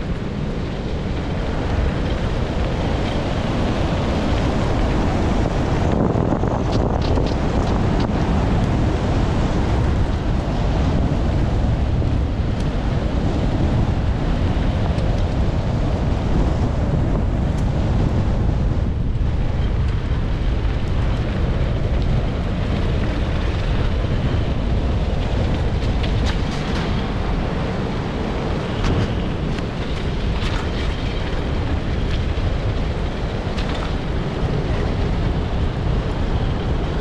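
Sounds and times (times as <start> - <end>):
wheels rolling on dirt road: 0.0 - 37.0
wind rushing over microphone: 0.0 - 37.0.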